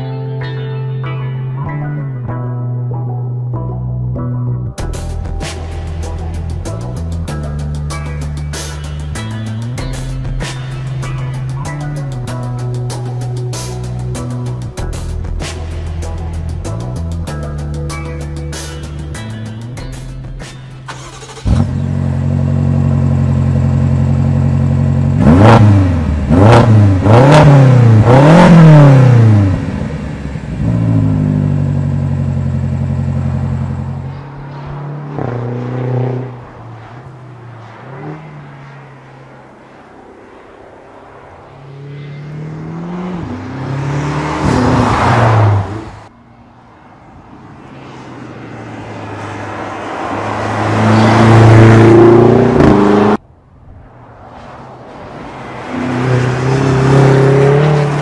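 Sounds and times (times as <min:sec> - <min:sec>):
car engine idling and revving: 0:01.6 - 0:58.0.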